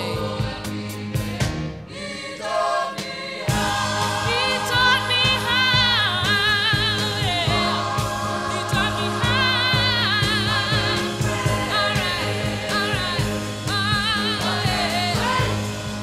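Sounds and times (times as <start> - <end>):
song with singing and band: 0.0 - 16.0.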